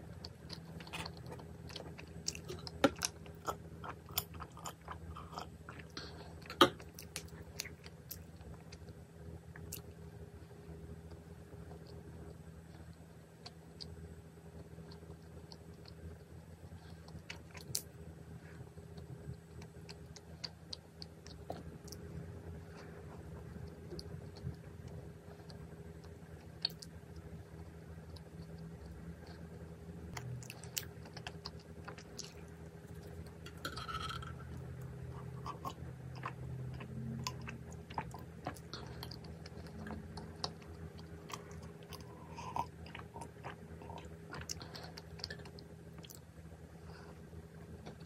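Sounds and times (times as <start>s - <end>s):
chewing soft pastry: 0.0s - 48.0s.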